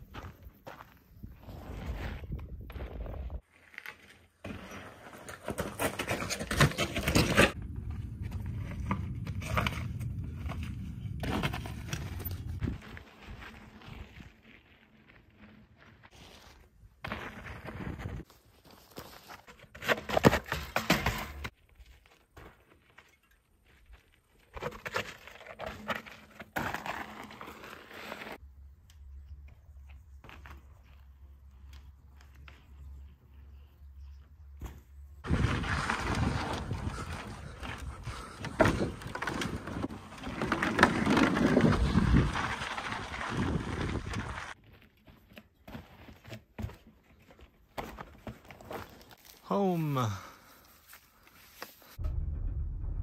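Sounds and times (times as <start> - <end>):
tyre crunching over gravel: 0.0 - 20.6, 21.4 - 28.4, 34.6 - 52.0.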